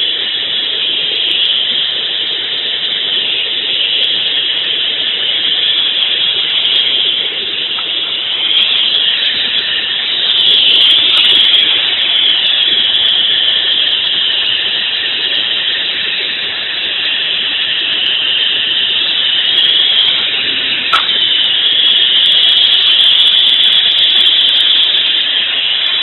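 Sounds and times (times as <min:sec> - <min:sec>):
furnace rushing under forced air: 0:00.0 - 0:26.0.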